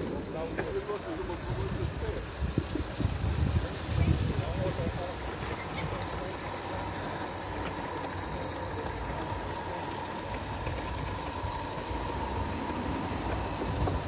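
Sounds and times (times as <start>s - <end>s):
faint steady whine: 0.0s - 14.0s
model steam locomotive running: 0.0s - 14.0s.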